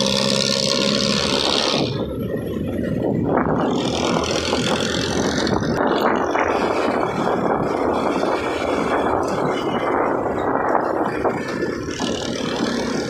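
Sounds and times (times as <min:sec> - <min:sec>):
road noise: 0:00.0 - 0:13.0
rough vehicle engine: 0:00.0 - 0:13.0.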